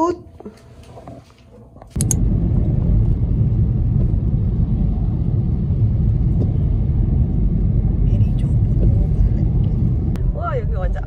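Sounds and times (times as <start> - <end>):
car cabin rumble: 2.0 - 11.0.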